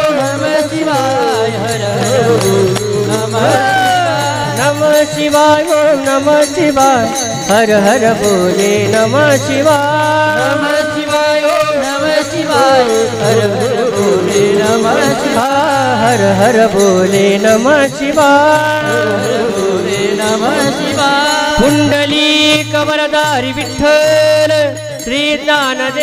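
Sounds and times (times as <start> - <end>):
hand cymbals ticking: 0.0 - 26.0
person singing devotional song: 0.0 - 26.0.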